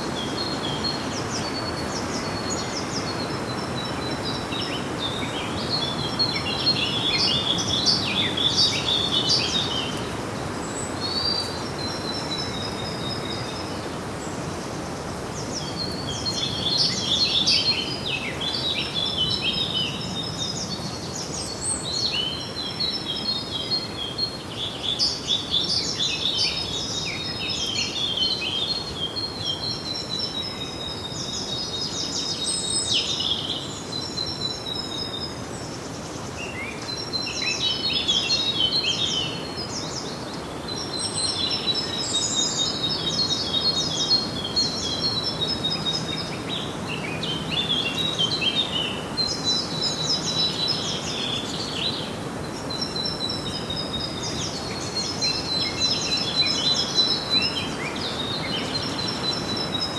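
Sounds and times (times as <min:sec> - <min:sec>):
songbirds singing: 0:00.0 - 0:59.9
steady background hiss: 0:00.0 - 0:59.9.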